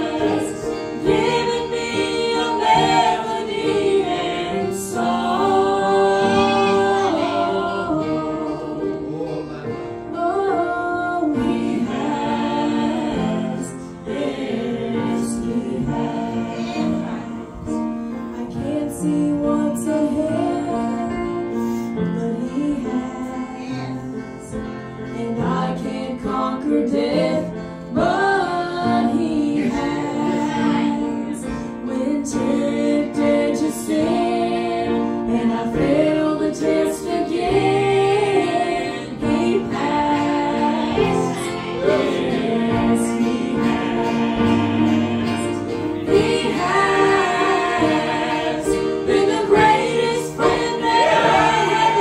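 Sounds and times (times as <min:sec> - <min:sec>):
instrumental accompaniment: 0:00.0 - 0:52.0
man and woman singing duet: 0:00.0 - 0:52.0.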